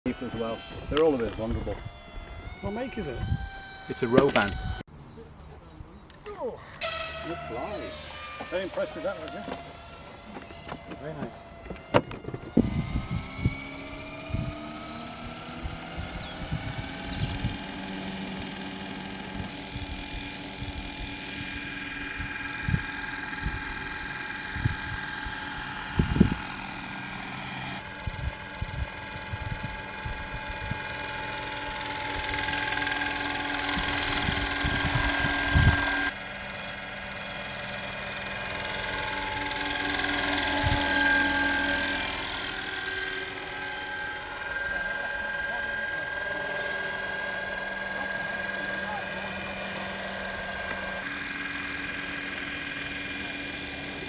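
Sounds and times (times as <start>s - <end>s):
rc helicopter rotor whine: 0.1s - 5.2s, 5.9s - 54.0s.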